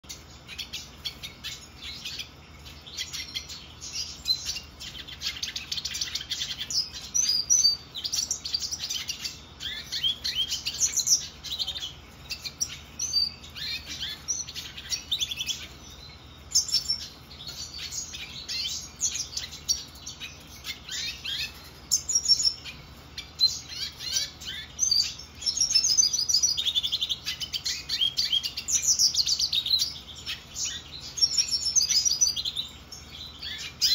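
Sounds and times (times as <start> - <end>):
bird twittering song: 0.0 - 33.9.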